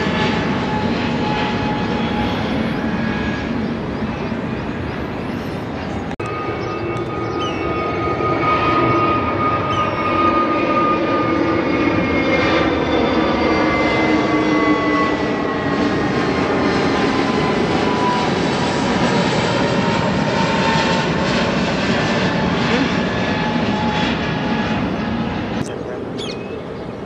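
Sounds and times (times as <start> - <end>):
jet airliner taking off: 0.0 - 27.0.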